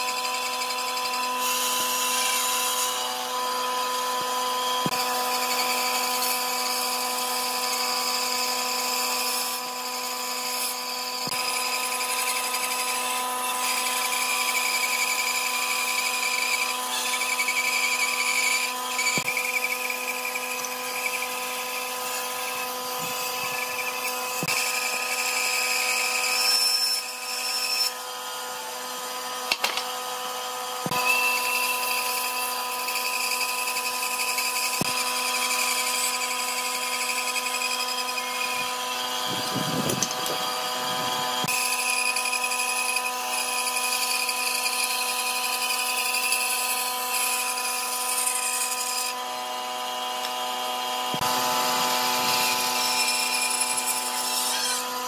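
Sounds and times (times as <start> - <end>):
power tool motor whine: 0.0 - 55.0.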